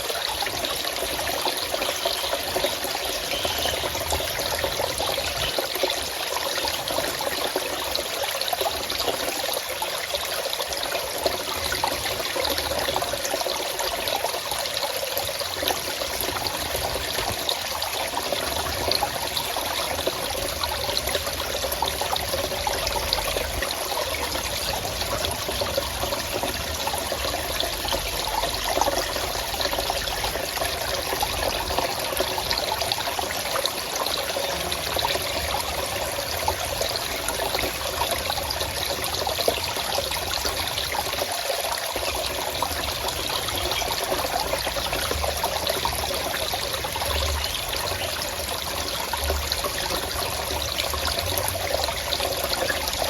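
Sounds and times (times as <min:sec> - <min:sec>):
stream trickling and splashing: 0:00.0 - 0:53.0.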